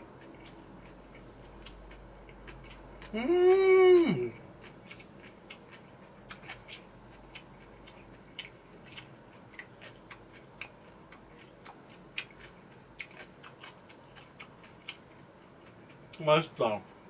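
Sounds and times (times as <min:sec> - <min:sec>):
wet chewing mouth sounds: 0:00.1 - 0:03.4, 0:04.2 - 0:16.2.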